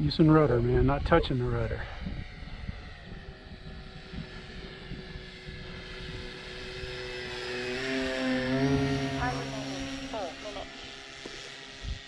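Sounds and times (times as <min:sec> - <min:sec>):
model plane motors droning: 0:00.0 - 0:12.0.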